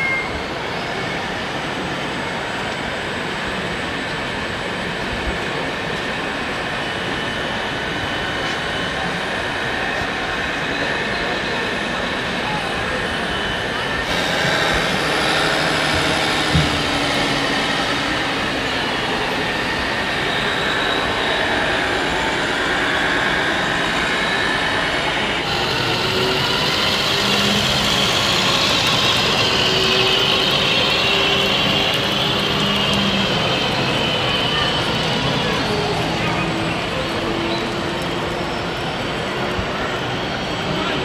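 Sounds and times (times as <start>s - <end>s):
busy exhibition hall din: 0.0s - 41.0s
model vehicle engines running: 2.7s - 41.0s.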